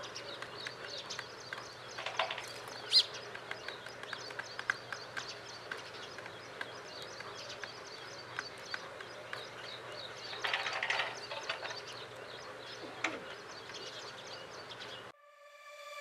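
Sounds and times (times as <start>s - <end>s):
sparrows chirping: 0.0s - 15.1s.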